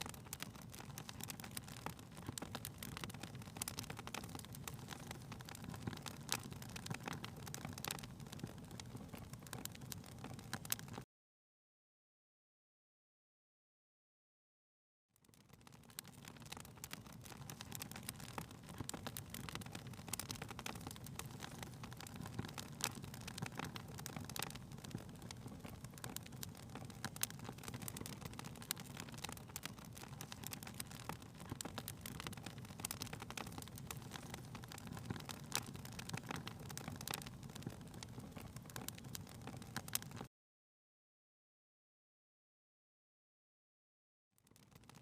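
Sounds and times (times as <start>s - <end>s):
wood fire crackling: 0.0s - 11.0s, 15.2s - 40.3s, 44.4s - 45.0s.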